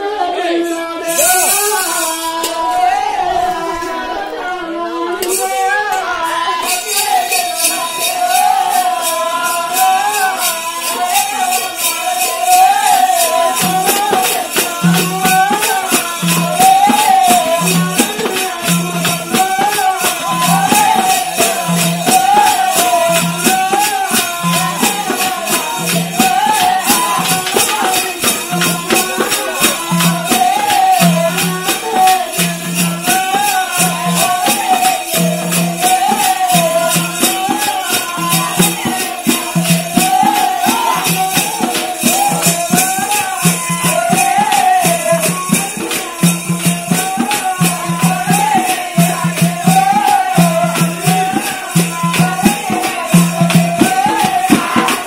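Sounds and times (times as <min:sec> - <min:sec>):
metallic jingling rhythm: 0:05.1 - 0:55.0.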